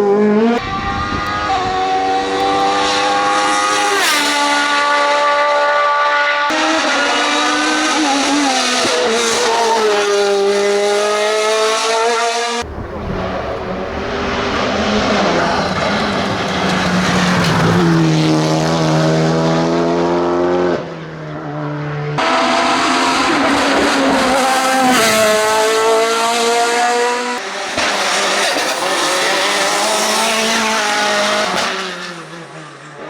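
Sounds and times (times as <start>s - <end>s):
racing car engines at high revs: 0.0s - 33.0s.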